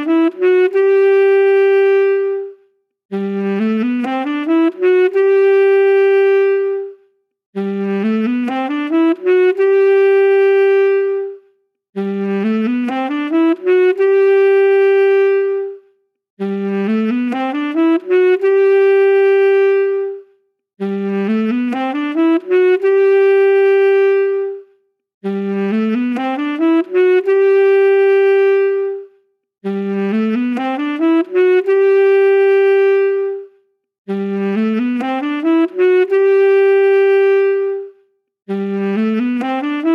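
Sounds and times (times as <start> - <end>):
saxophone phrase: 0.0 - 7.0, 7.6 - 11.4, 12.0 - 39.9.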